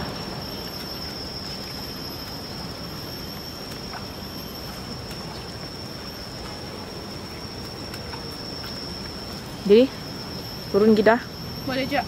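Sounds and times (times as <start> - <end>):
constant high-pitched whine: 0.0 - 12.0.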